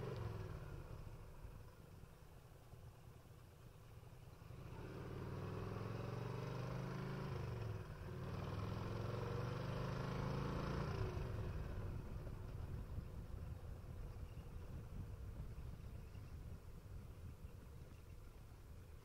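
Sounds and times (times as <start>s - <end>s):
motorcycle engine accelerating: 0.0s - 1.8s, 4.3s - 18.1s.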